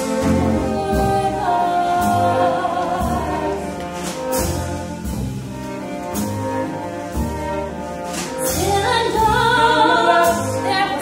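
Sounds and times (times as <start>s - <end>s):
small orchestra playing show tune: 0.0s - 11.0s.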